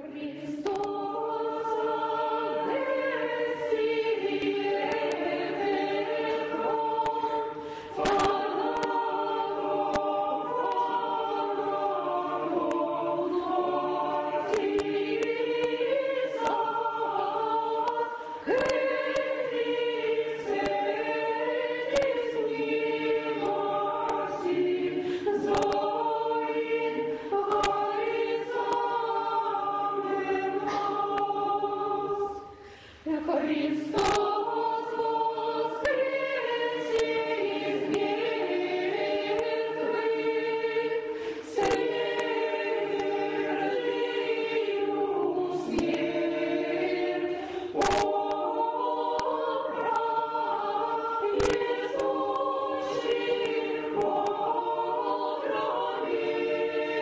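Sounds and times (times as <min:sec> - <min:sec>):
church choir singing a cappella: 0:00.0 - 0:57.0.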